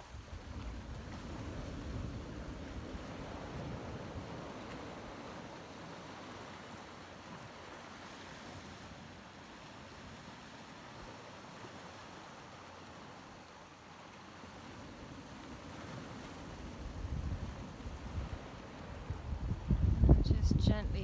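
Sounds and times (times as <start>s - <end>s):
waves on a shingle beach: 0.0s - 20.1s.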